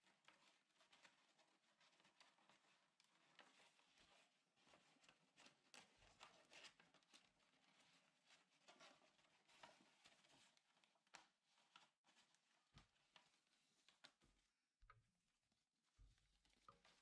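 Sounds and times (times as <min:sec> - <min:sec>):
paper rustling and crinkling: 0:00.1 - 0:14.3.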